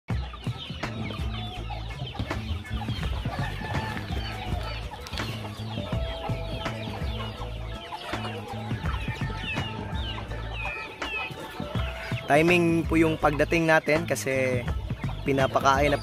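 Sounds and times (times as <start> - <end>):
background music: 0.1 - 16.0
chickens clucking: 0.1 - 16.0.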